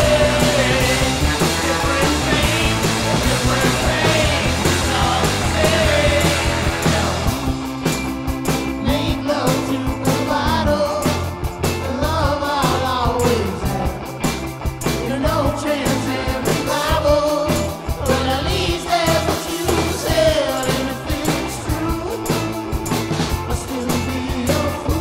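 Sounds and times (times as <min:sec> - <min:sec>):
person singing: 0:00.0 - 0:07.5, 0:08.8 - 0:14.2, 0:15.0 - 0:25.0
rock band playing: 0:00.0 - 0:25.0.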